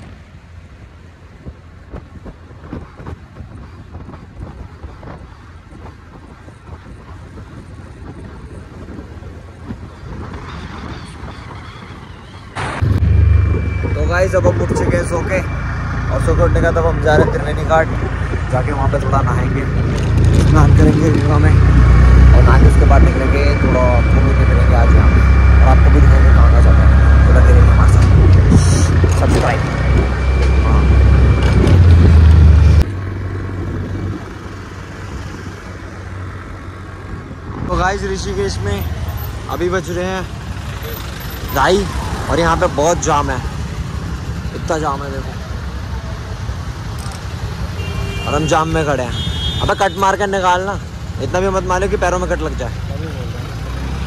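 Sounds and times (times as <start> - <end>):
traffic background: 0.0 - 54.0
vehicle rumble: 0.0 - 54.0
wind buffeting microphone: 1.0 - 44.6.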